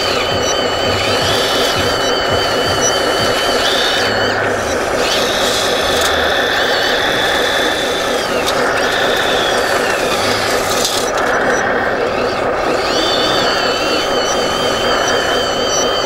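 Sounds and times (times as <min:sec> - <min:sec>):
model truck high whine: 0:00.0 - 0:16.0
model truck motor running: 0:00.0 - 0:16.0.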